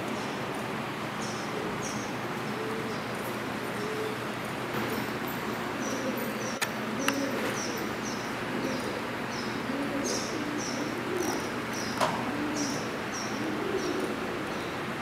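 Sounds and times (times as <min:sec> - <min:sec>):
steady background noise: 0:00.0 - 0:15.0
coo-like bird notes: 0:01.3 - 0:04.3, 0:05.0 - 0:14.9.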